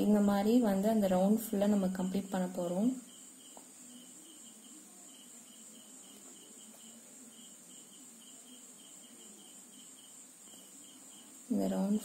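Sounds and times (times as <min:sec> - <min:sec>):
faint insect chirping: 0:00.0 - 0:12.0
steady high hiss: 0:00.0 - 0:12.0.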